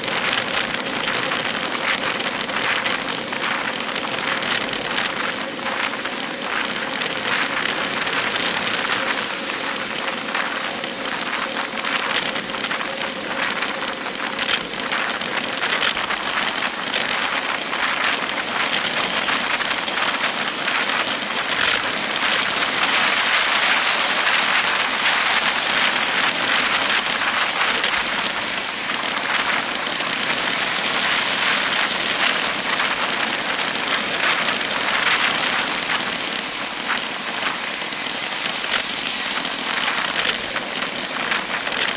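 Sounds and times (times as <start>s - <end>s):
sharp clicks and knocks: 0.0s - 23.3s, 24.5s - 41.9s
wind and road noise: 0.0s - 41.9s.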